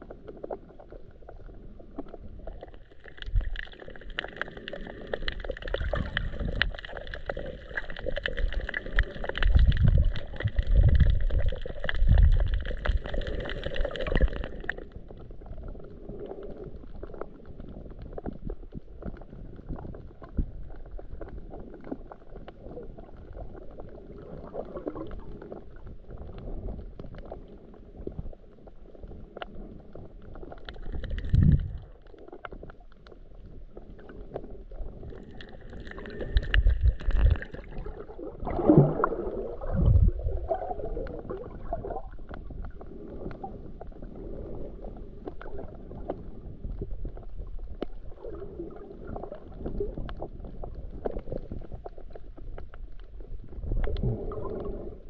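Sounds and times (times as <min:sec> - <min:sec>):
faint underwater clicks: 0:00.0 - 0:55.0
low thumps and gurgles: 0:00.0 - 0:55.0
low underwater rumbling: 0:00.0 - 0:55.0.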